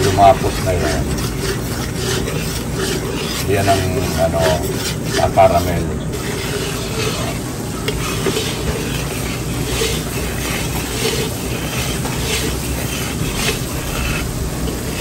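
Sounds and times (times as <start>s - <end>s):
sauce bubbling and sizzling: 0.0s - 5.2s, 6.1s - 15.0s
spatula scraping wok: 0.0s - 15.0s.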